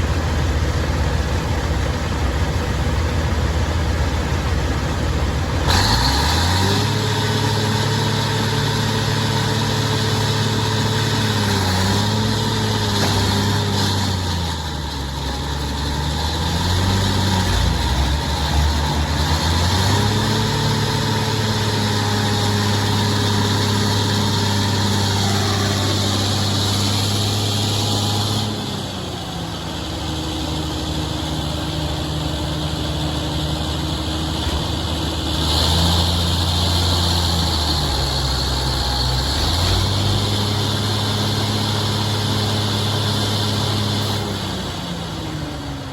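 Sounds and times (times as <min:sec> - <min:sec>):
heavy diesel engine revving: 0:00.0 - 0:45.9.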